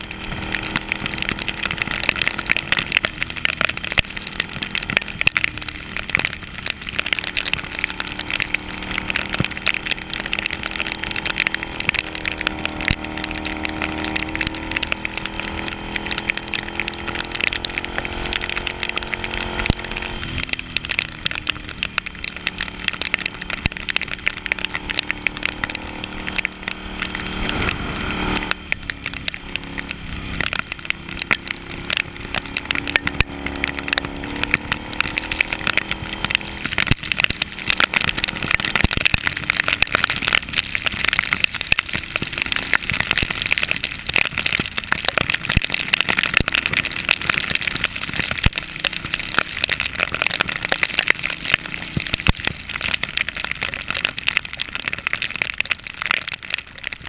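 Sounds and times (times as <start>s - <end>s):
motorcycle engine running: 0.0s - 55.1s
rain spattering on camera: 0.0s - 57.0s.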